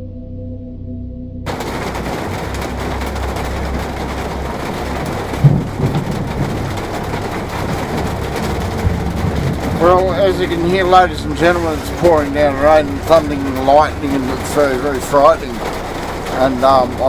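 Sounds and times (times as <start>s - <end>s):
heavy rain pouring: 1.5s - 17.0s
loud bang: 1.5s - 17.0s
thunder rumbling: 1.5s - 17.0s.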